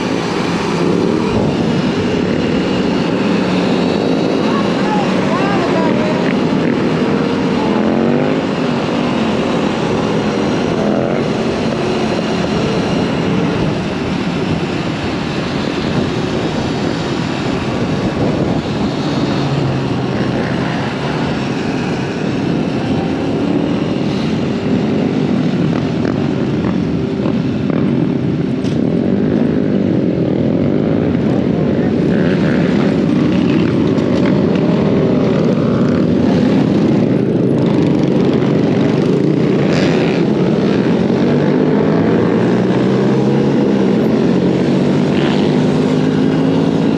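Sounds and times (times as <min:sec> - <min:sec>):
dirt bike engines revving: 0:00.0 - 0:46.9
wind rush: 0:00.0 - 0:46.9.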